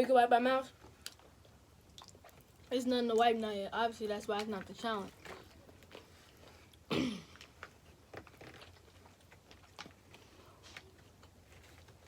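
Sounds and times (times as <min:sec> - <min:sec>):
faint chewing: 0:00.7 - 0:03.5, 0:04.2 - 0:12.0.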